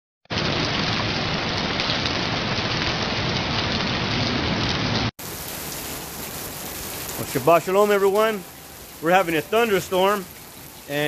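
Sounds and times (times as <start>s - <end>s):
heavy rain: 0.3s - 11.0s.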